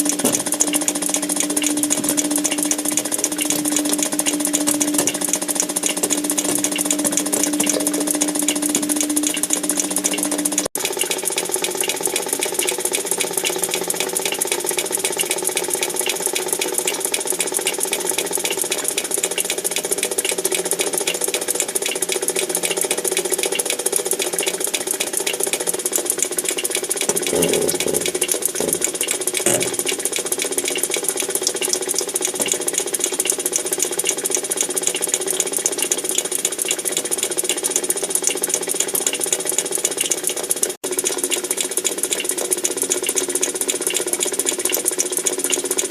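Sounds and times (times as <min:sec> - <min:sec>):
constant machine hum: 0:00.0 - 0:39.6
fast mechanical rattling: 0:00.0 - 0:45.9.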